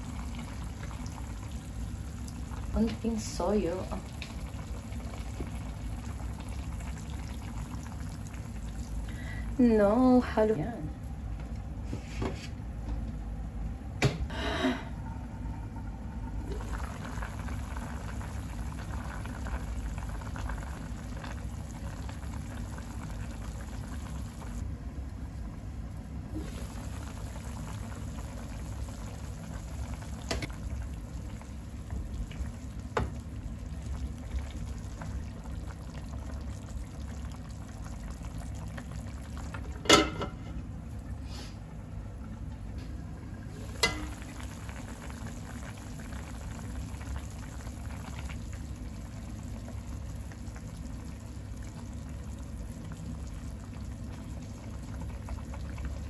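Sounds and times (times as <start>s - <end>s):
food bubbling in a covered pan: 0.0s - 56.0s.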